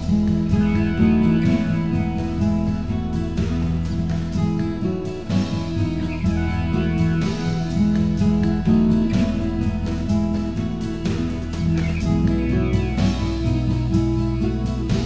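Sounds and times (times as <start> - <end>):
strummed acoustic guitar music: 0.0 - 15.0.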